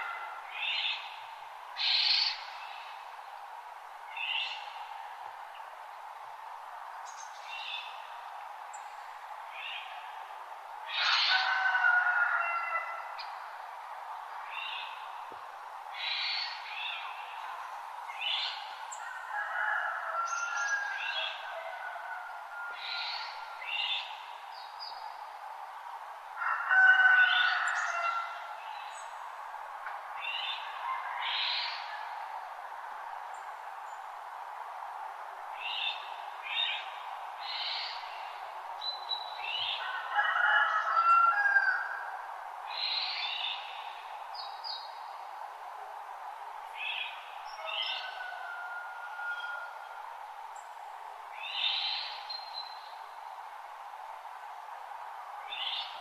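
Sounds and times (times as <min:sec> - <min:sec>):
outdoor ambience hiss: 0:00.0 - 0:56.0.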